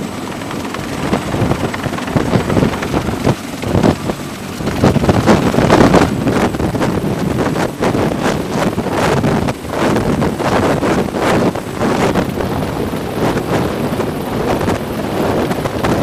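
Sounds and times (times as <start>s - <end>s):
downwash wind buffeting microphone: 0.0s - 16.0s
helicopter rotor noise: 0.0s - 16.0s.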